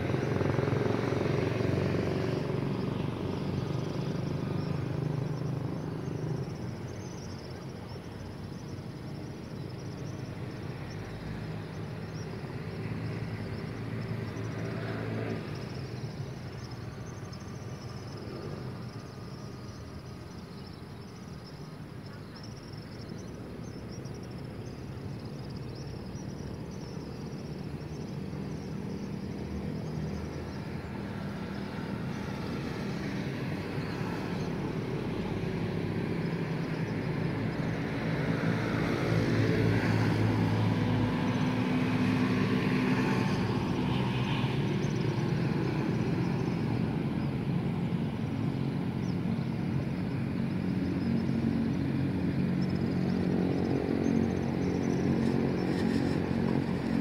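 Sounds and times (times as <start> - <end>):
car and motorcycle engines passing: 0.0 - 22.0, 22.6 - 57.0.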